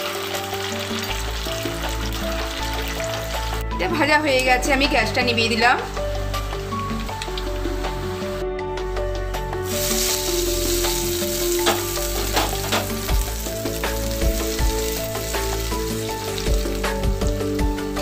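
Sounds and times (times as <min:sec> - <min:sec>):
hot oil sizzling: 0:00.0 - 0:03.6, 0:05.1 - 0:08.4, 0:09.6 - 0:18.0.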